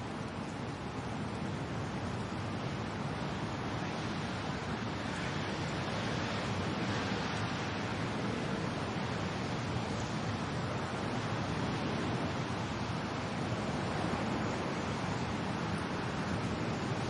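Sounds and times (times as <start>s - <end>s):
wind and rain hiss: 0.0s - 17.0s.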